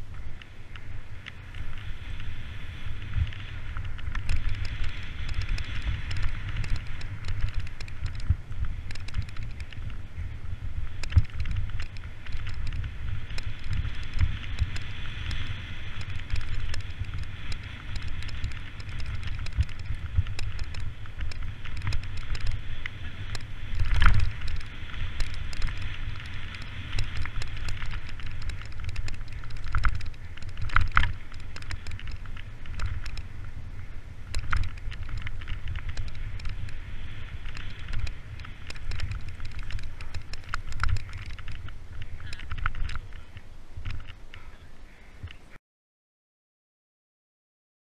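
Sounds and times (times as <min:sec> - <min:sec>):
bike rattles and clicks: 0:00.0 - 0:45.6
low ground rumble: 0:00.0 - 0:45.6
wind on microphone: 0:00.0 - 0:45.6.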